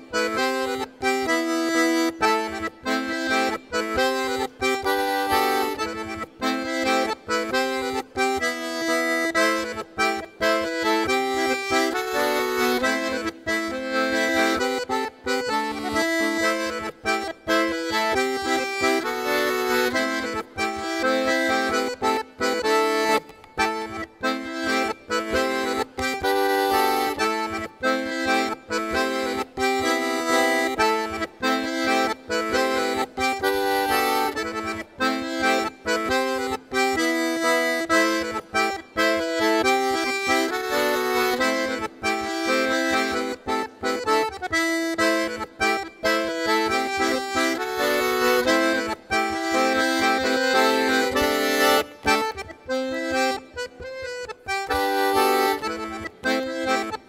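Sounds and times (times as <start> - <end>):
folk dance music: 0.0 - 57.0.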